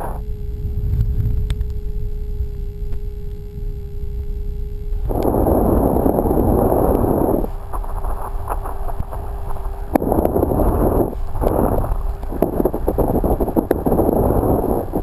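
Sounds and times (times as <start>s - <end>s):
biplane engine rumbling: 0.0s - 15.0s.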